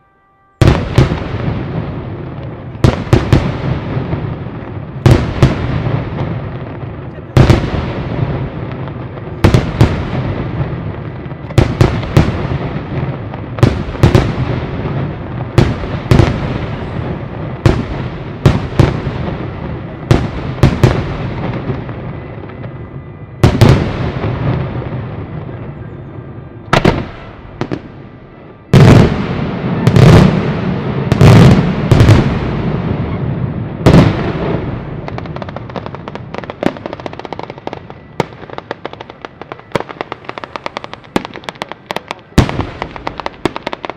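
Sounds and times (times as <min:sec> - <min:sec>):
fireworks bangs: 0:00.0 - 0:43.9
fireworks crackling: 0:00.0 - 0:43.9.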